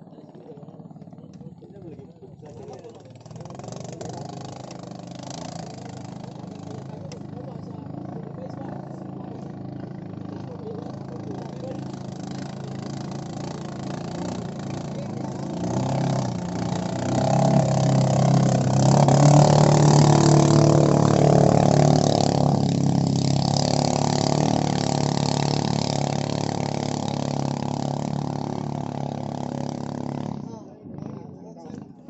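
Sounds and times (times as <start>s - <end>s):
speedboat engine droning: 0.0s - 32.0s.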